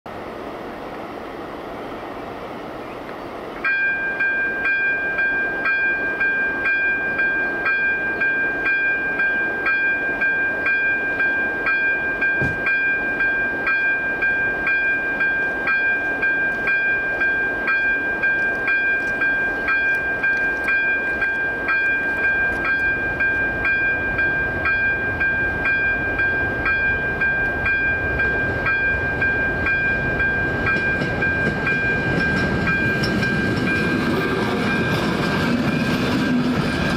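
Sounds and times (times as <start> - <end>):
level-crossing bell: 3.6 - 36.9.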